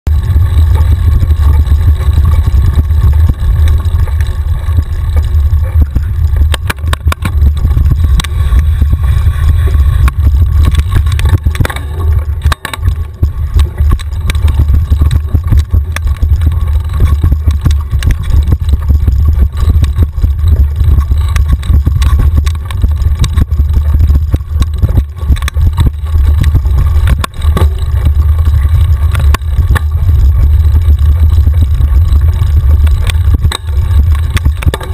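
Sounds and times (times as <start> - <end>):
bike ride vibration rumble: 0.0 - 34.9
bike clicks and rattles: 0.1 - 34.9
wind buffeting: 0.1 - 34.9.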